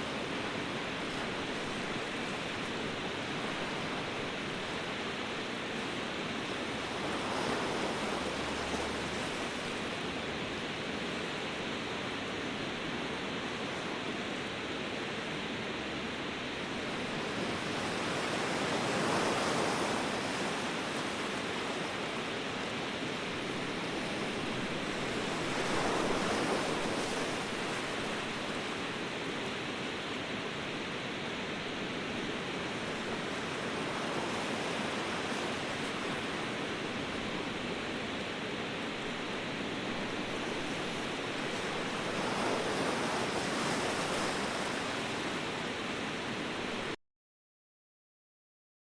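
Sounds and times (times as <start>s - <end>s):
ocean waves breaking: 0.0s - 13.9s, 16.4s - 46.9s.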